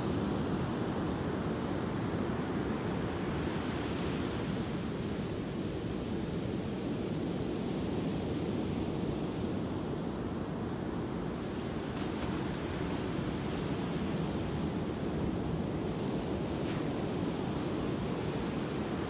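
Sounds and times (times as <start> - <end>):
ocean surf washing on sand: 0.0 - 19.0.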